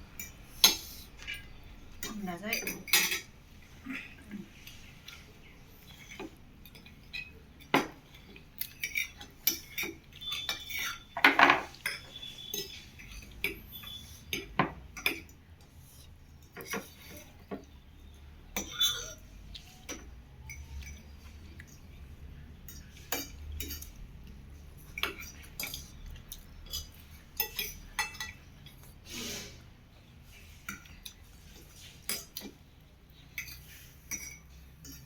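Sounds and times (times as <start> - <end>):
cutlery clinking against plates: 0.1 - 15.7, 16.4 - 17.8, 18.5 - 22.0, 22.6 - 28.9, 30.5 - 35.0.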